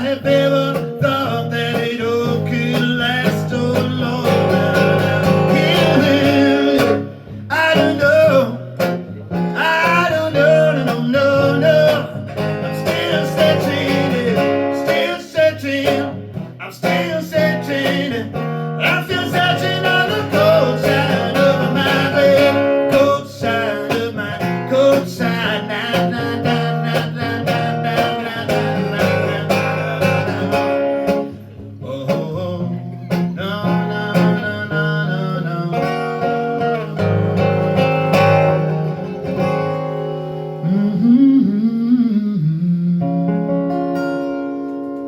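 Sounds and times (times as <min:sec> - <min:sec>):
live guitar instrumental: 0:00.0 - 0:45.0.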